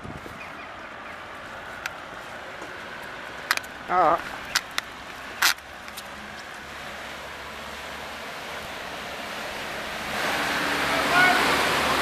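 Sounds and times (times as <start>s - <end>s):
floodwater rushing: 0.6s - 12.0s.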